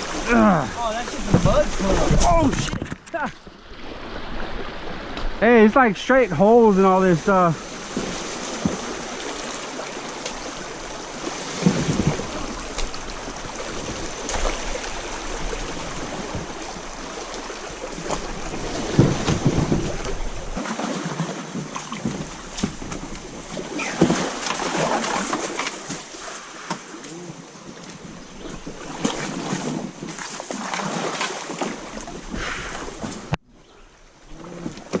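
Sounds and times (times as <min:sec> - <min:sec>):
paddle splashing water: 0:00.0 - 0:35.0.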